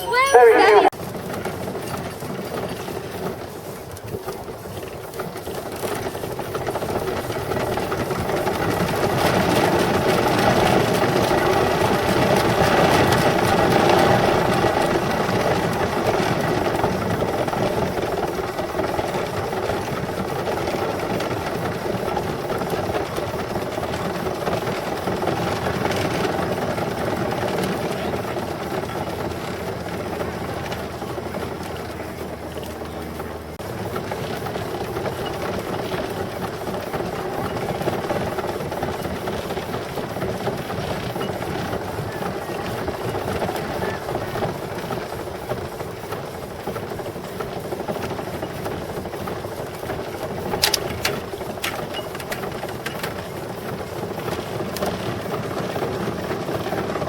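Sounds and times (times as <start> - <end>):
engine running with rattle: 0.0 - 57.0.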